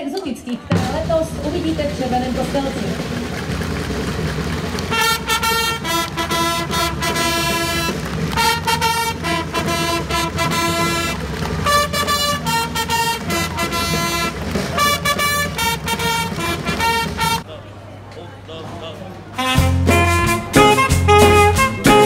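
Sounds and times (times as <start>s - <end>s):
bright wind instrument melody: 2.4s - 17.5s, 19.4s - 22.0s.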